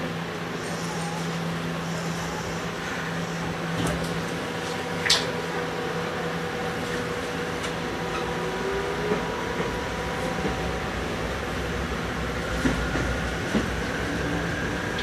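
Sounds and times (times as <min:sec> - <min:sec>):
electric train whining: 0:00.1 - 0:15.0.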